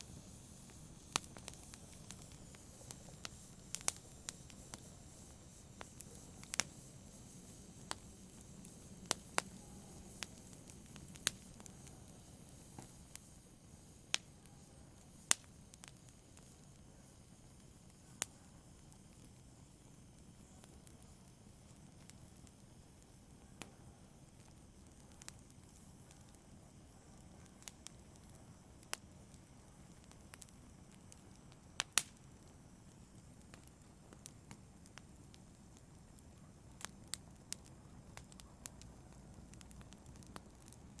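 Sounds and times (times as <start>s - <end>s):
campfire crackling and popping: 0.0s - 41.0s
soft sound of flames: 0.0s - 41.0s.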